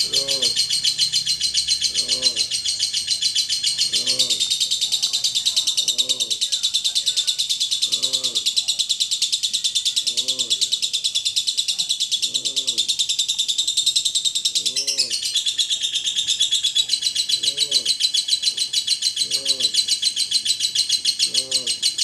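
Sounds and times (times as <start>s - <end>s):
lovebird chattering trill: 0.0s - 22.0s.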